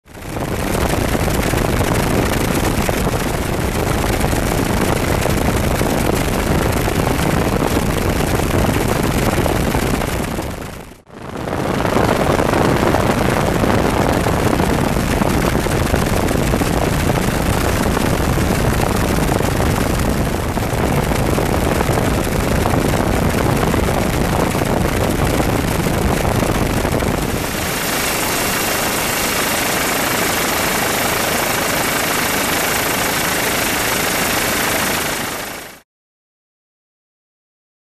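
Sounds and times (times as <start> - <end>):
helicopter rotor and engine: 0.1 - 35.8.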